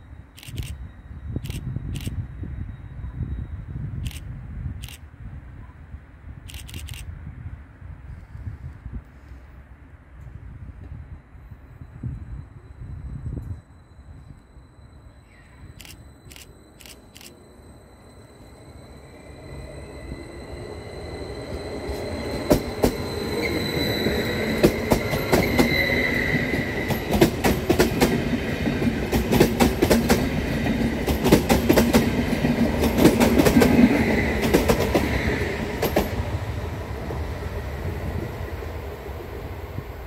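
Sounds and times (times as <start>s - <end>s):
train passing with high whine: 0.0s - 40.0s.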